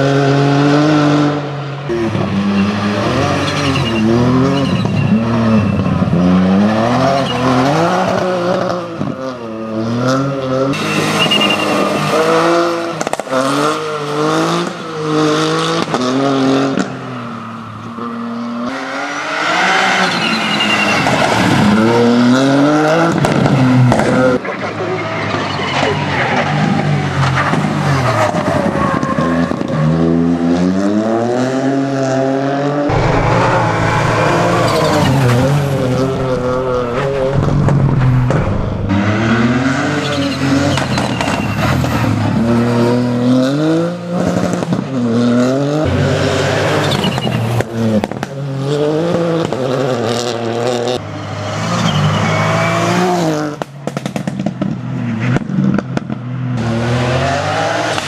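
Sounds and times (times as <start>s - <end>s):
rally car engine revving: 0.0s - 17.1s, 17.8s - 58.0s.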